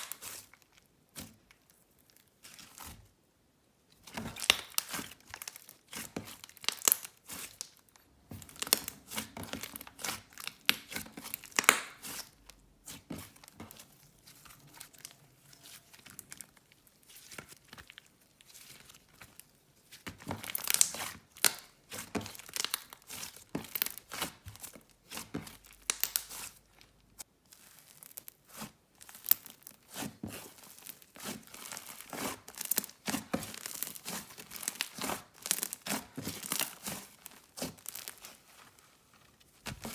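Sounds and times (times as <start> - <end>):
slime squishing with sticky crackles: 0.0 - 39.9.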